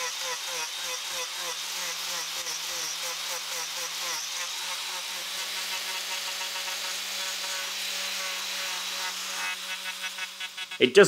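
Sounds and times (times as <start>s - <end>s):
angle grinder cutting wood: 0.0s - 11.0s.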